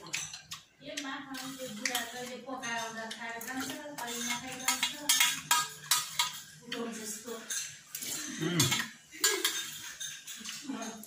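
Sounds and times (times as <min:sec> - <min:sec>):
spoon clinking on metal plate: 0:01.3 - 0:06.6, 0:07.3 - 0:11.0.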